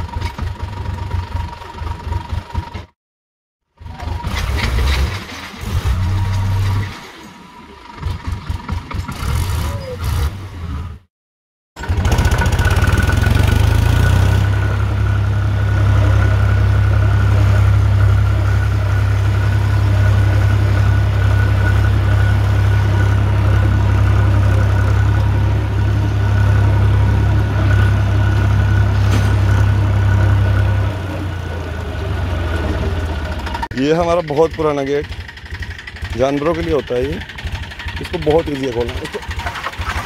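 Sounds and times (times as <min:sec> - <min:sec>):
tractor diesel engine running: 0:00.0 - 0:02.9, 0:03.8 - 0:10.2, 0:11.8 - 0:40.0.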